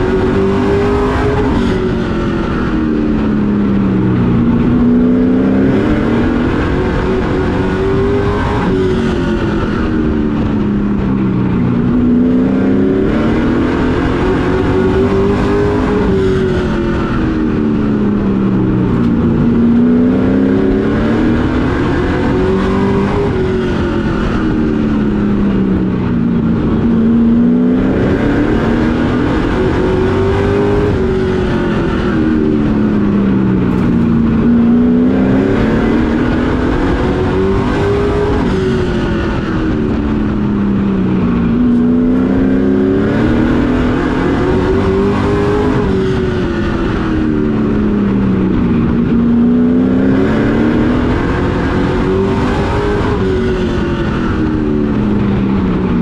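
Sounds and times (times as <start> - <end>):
race truck engine: 0.0 - 56.0.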